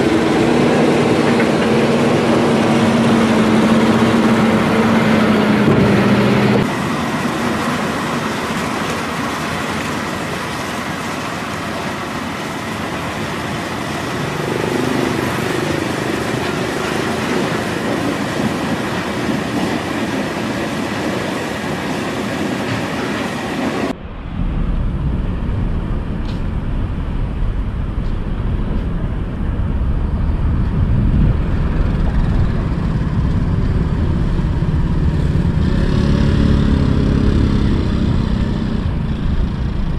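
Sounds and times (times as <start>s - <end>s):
traffic rumble: 0.0s - 39.9s.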